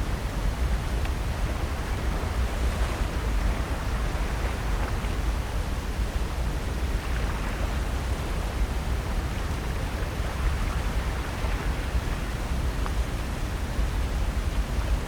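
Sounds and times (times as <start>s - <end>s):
ocean surf: 0.0s - 14.0s.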